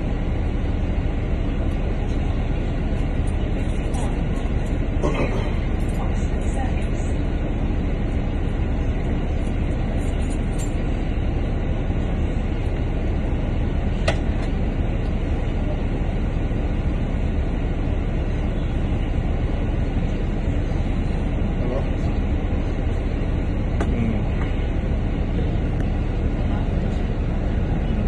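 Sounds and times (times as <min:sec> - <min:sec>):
bus engine idling: 0:00.0 - 0:28.0.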